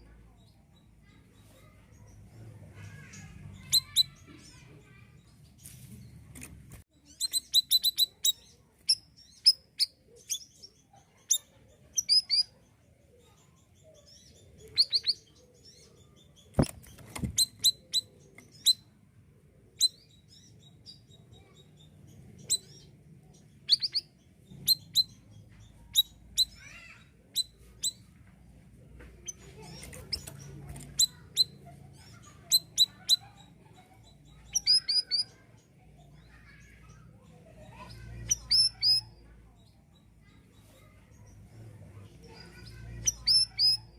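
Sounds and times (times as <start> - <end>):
songbird high chirps: 0.0 - 19.1, 19.7 - 43.9.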